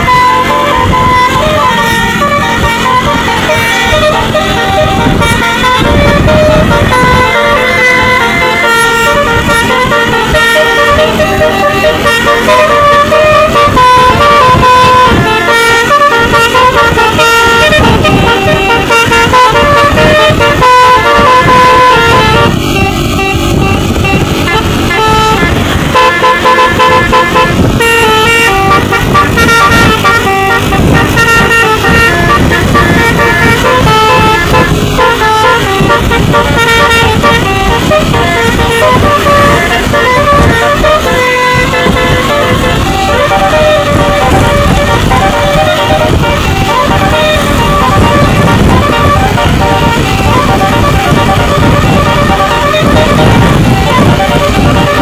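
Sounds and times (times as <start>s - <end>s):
musical bus horn melody: 0.0s - 55.0s.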